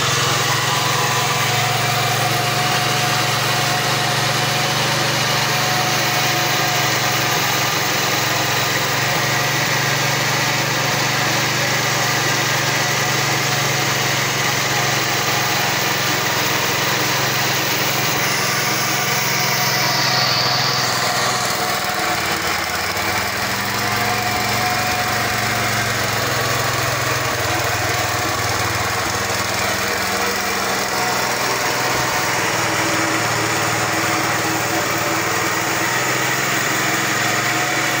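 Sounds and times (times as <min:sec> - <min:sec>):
small diesel engine running: 0:00.0 - 0:38.0.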